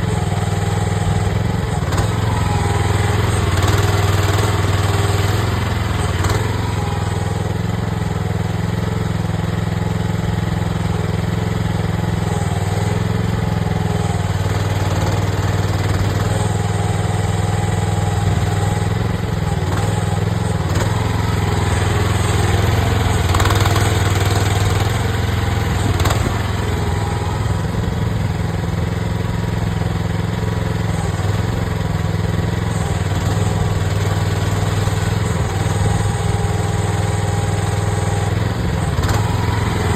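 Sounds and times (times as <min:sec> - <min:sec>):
hydraulic whine: 0:00.0 - 0:09.5, 0:10.4 - 0:39.9
excavator engine running: 0:00.0 - 0:39.9.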